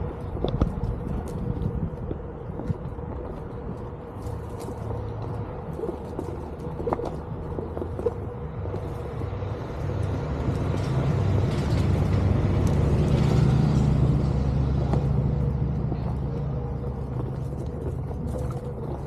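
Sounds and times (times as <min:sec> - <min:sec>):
electric board rumbling on trail: 0:00.0 - 0:19.0
wind and tyre noise: 0:00.0 - 0:19.0.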